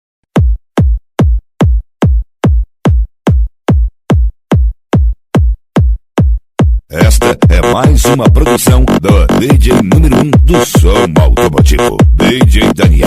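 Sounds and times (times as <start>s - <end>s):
drum machine kick drum: 0.2s - 13.0s.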